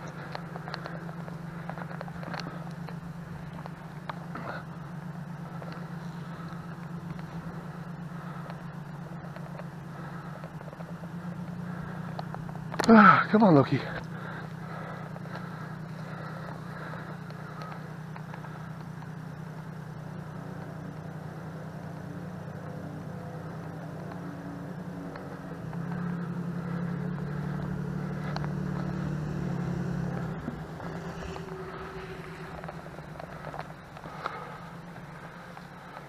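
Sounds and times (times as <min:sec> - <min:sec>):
pickup truck engine running: 0:00.0 - 0:36.0.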